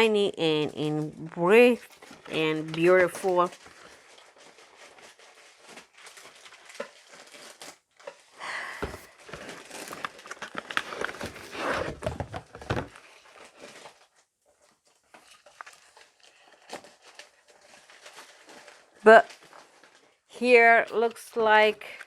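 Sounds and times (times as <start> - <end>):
plastic packaging crinkling: 0.7 - 22.0.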